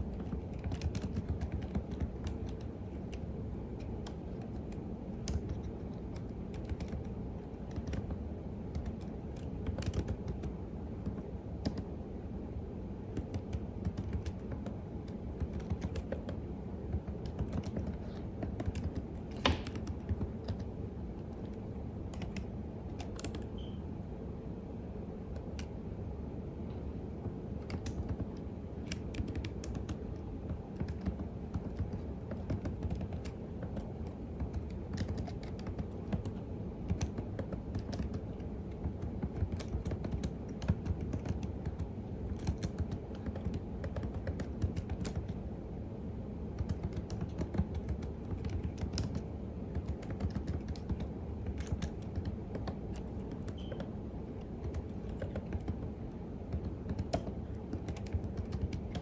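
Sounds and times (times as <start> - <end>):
computer keyboard typing: 0.0 - 11.9, 13.0 - 23.8, 27.5 - 45.4, 46.5 - 59.0
steady low hum: 0.0 - 59.0.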